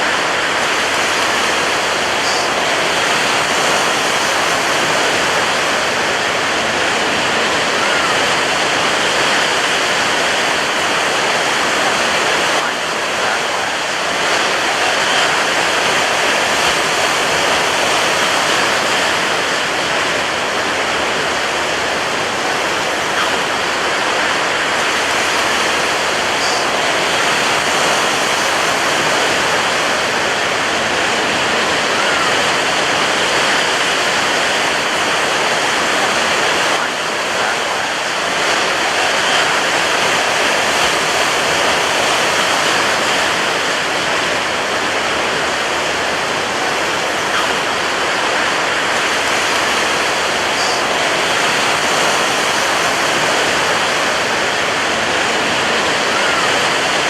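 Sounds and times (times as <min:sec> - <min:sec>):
ocean surf rushing: 0:00.0 - 0:57.0.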